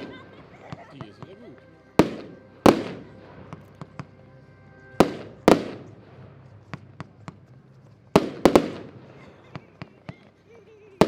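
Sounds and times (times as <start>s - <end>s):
fireworks sharp reports: 0.0s - 4.1s, 4.9s - 10.3s.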